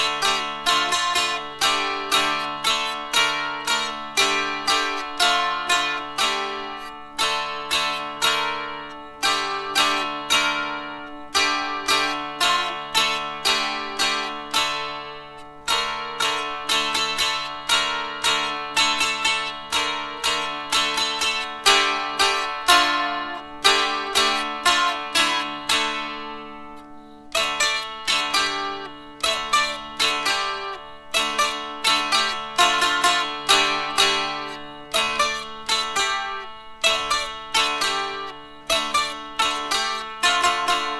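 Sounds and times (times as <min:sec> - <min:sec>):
dulcimer plucked melody: 0:00.0 - 0:40.9.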